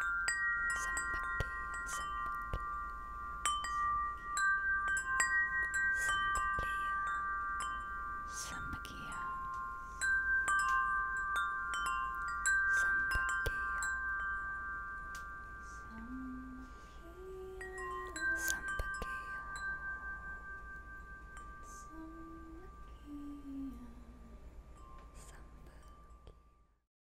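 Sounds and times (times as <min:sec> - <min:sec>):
metal tube wind chimes ringing: 0:00.0 - 0:26.8.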